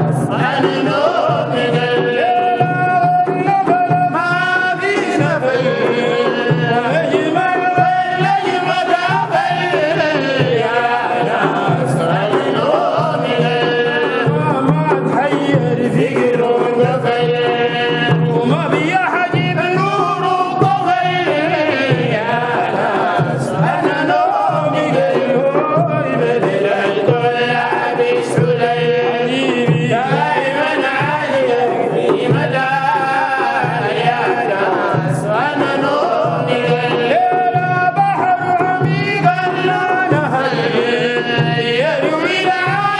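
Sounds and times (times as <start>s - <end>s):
light percussion: 0.0s - 42.9s
men singing devotional chant: 0.0s - 42.9s.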